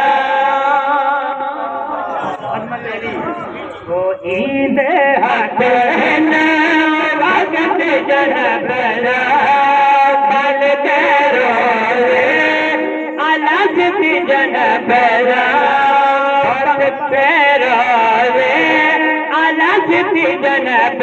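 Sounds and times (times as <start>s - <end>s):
man chanting through microphone: 0.0s - 21.0s.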